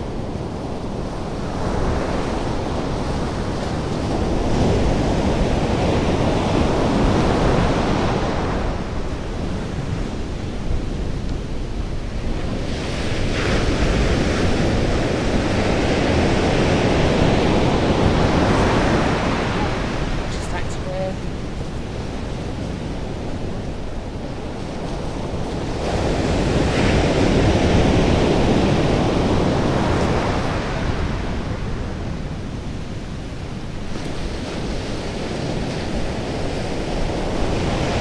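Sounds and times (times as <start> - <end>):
surf breaking on sandy beach: 0.0 - 38.0
wind rumble on microphone: 0.0 - 38.0.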